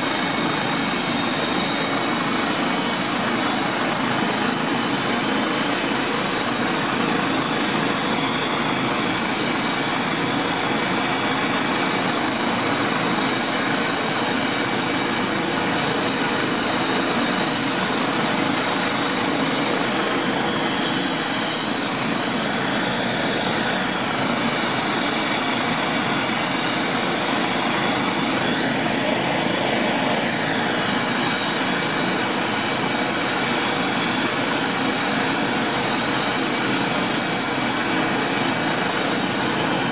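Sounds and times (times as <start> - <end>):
helicopter engine and rotor rush: 0.0 - 39.9
helicopter turbine whine: 0.0 - 39.9.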